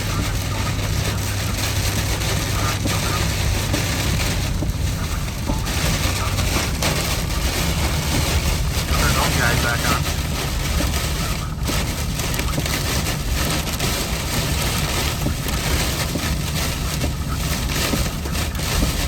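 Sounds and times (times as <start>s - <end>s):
car road and engine rumble: 0.0s - 19.0s
rain and wet tyres hiss: 0.0s - 19.0s.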